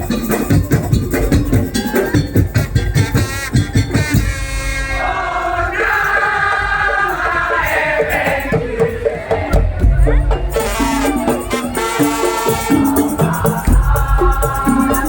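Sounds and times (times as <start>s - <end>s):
percussion beat: 0.0s - 15.0s.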